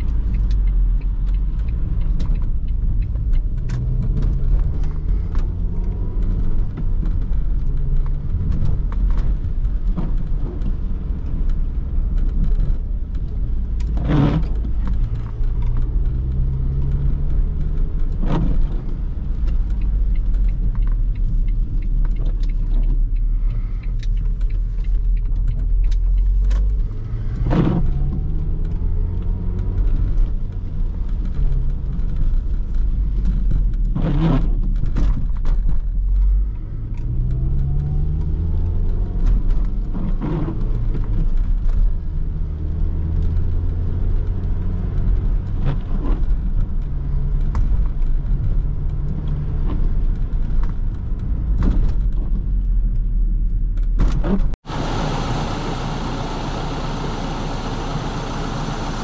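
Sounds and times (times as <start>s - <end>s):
car engine: 0.0s - 59.0s
road rumble: 0.0s - 59.0s.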